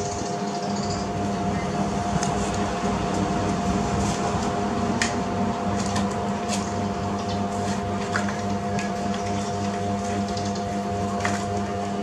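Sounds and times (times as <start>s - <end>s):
machine hum with high tone: 0.0s - 12.0s.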